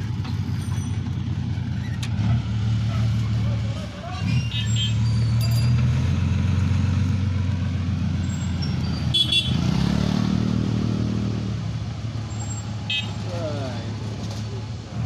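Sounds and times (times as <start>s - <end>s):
lorry diesel engine droning: 0.0s - 15.0s.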